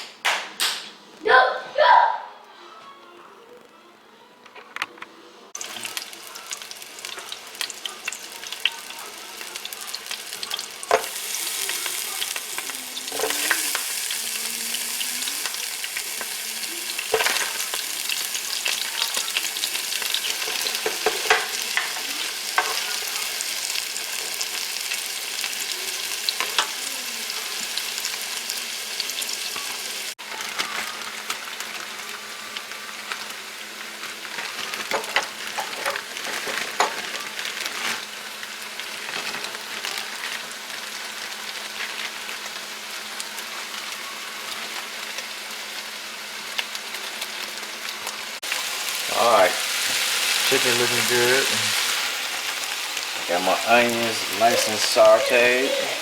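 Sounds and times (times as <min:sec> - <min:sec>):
food sizzling in a pan: 0:05.5 - 0:56.0.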